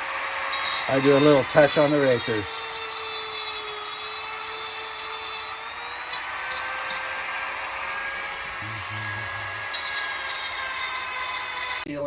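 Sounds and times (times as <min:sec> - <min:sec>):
motor drone with whine: 0:00.0 - 0:12.0.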